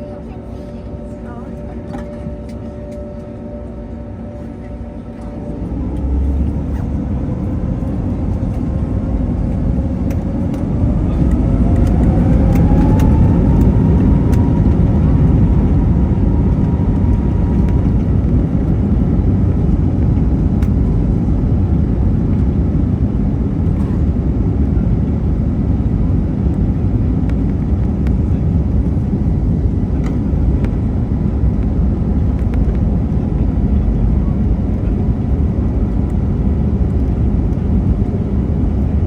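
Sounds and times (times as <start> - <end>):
jet engine whine rising: 0.0 - 39.0
jet engines rumbling: 0.0 - 39.0.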